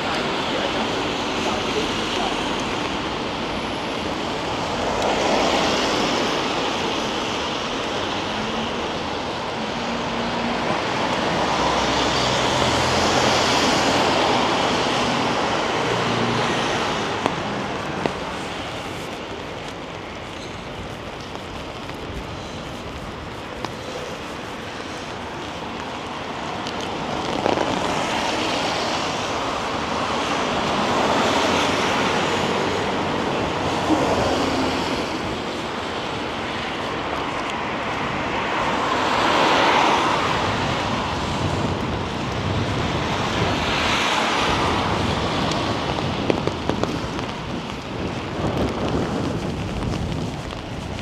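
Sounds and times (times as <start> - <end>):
tyres hissing on wet pavement: 0.0 - 51.0.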